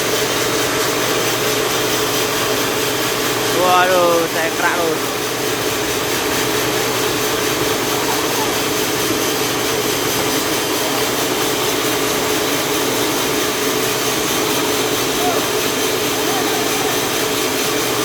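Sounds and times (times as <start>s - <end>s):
engine saw cutting log: 0.0s - 18.0s.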